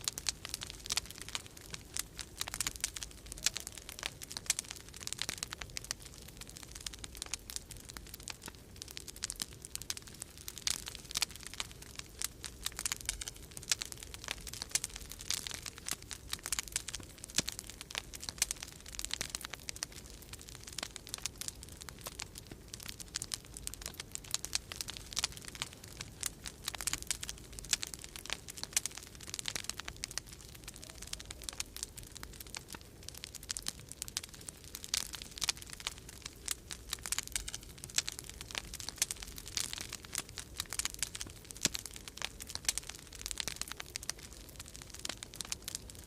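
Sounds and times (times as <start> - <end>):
fireplace fire crackling: 0.0 - 46.0.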